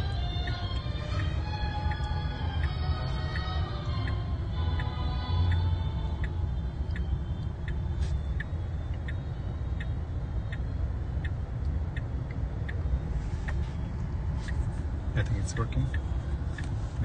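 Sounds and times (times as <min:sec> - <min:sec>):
turn signal ticking: 0:00.0 - 0:17.0.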